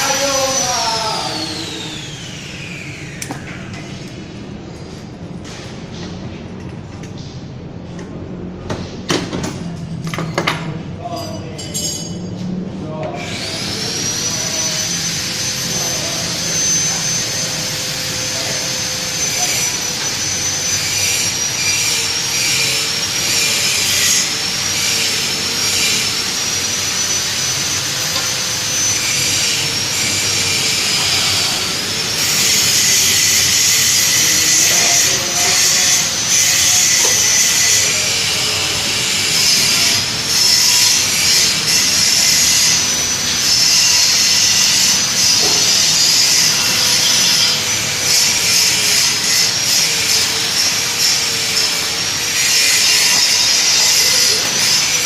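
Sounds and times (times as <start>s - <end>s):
power tool motor whine: 0.0s - 3.7s, 13.2s - 55.0s.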